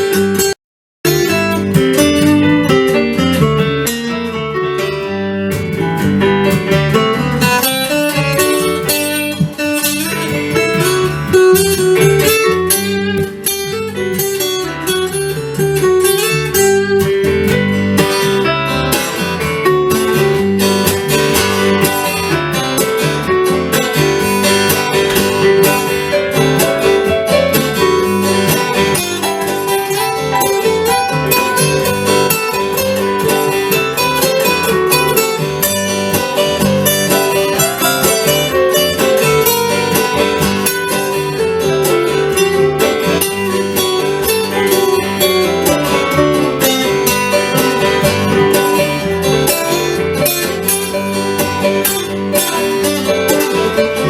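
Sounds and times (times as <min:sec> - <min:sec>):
guitar playing: 0:00.0 - 0:54.0.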